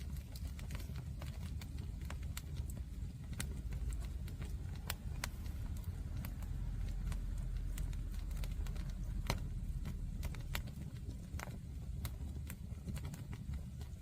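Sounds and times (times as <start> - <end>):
bonfire crackling: 0.0 - 14.0
burning wood popping: 0.0 - 14.0
low fire rumble: 0.0 - 14.0.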